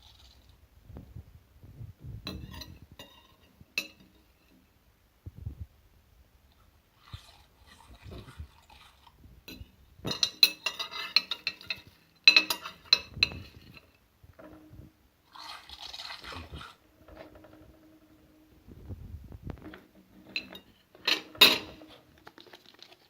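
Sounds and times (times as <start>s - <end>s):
soft rustling hiss: 0.0s - 23.0s.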